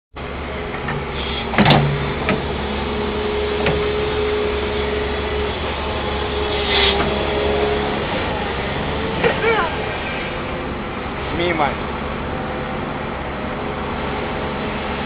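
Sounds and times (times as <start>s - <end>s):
excavator engine rumbling: 0.1s - 15.0s
steady whine: 0.2s - 15.0s.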